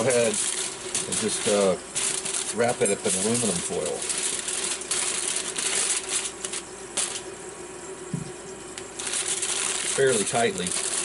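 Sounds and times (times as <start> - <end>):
aluminum foil crinkling: 0.0 - 7.3, 9.0 - 11.0
steady hum: 0.0 - 11.0.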